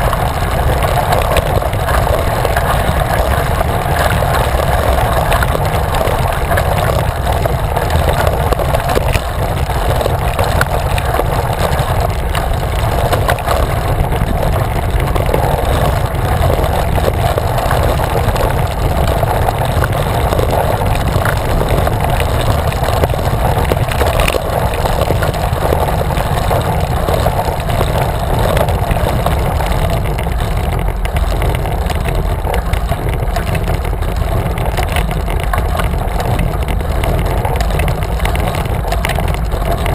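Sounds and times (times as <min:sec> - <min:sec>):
bicycle tyres on tarmac: 0:00.0 - 0:39.9
wind buffeting microphone: 0:00.0 - 0:39.9.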